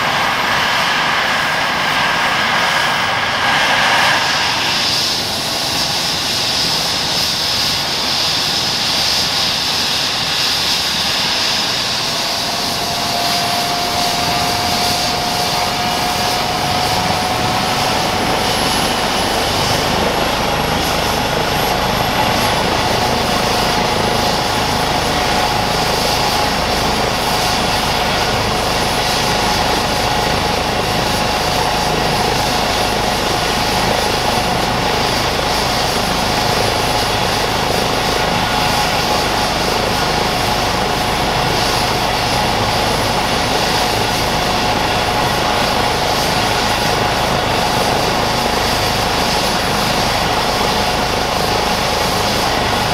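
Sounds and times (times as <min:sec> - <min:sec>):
deep rotor rumble: 0:00.0 - 0:07.4, 0:09.7 - 0:52.9
helicopter turbine whine: 0:00.0 - 0:52.9.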